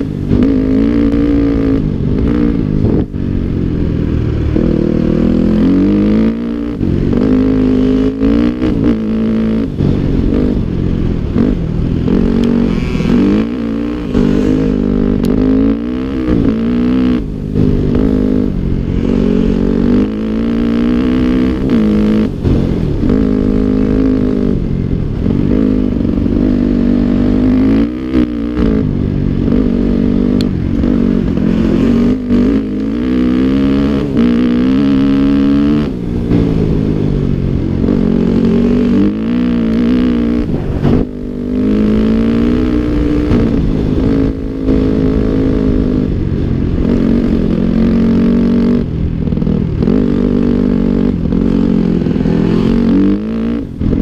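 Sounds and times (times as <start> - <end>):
dirt bike engine revving: 0.0 - 3.6, 4.4 - 54.0.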